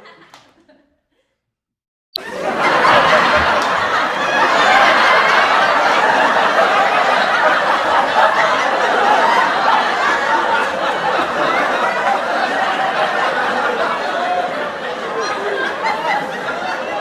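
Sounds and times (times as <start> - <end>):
audience laughter: 0.0 - 0.9, 2.2 - 17.0.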